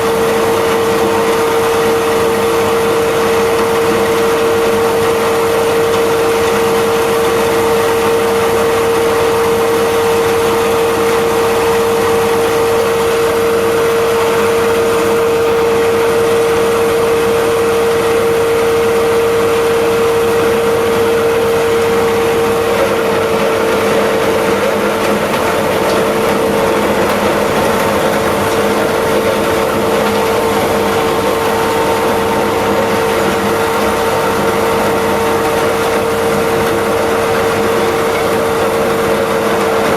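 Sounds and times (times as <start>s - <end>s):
crusher machine humming and grinding: 0.0s - 39.9s.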